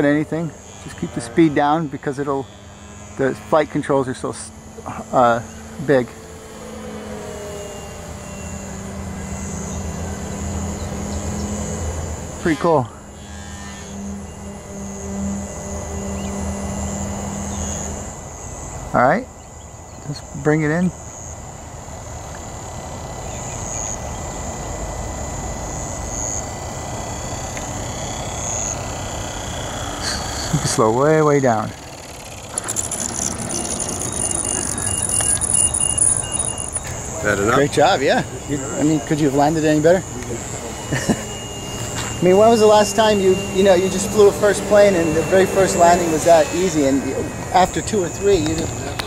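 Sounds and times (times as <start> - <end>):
high insect chorus: 0.0 - 49.0
model plane propeller droning: 0.0 - 49.0.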